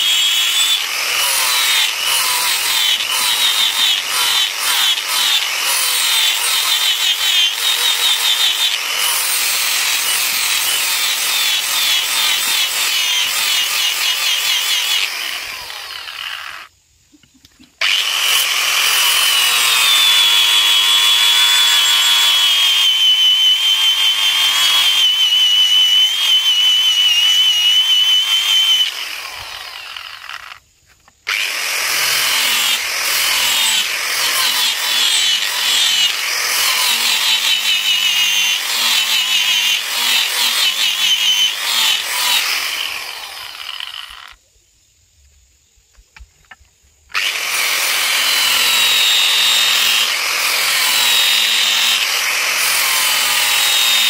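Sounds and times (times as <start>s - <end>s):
angle grinder grinding steel: 0.0s - 16.7s, 17.8s - 30.6s, 31.3s - 44.3s, 47.2s - 54.0s.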